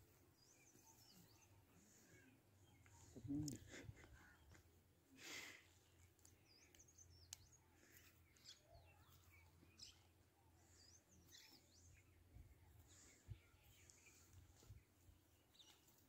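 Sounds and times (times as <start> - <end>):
faint high bird chirps: 0.0 - 3.5, 6.2 - 16.0.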